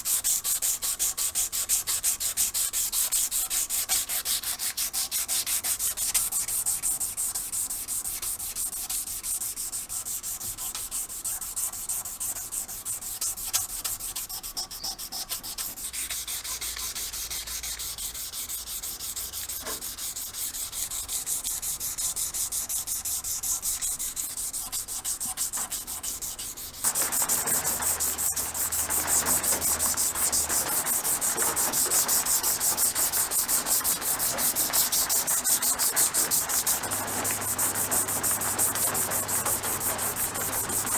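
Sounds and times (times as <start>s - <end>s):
sanding strokes on metal: 0.0s - 40.9s.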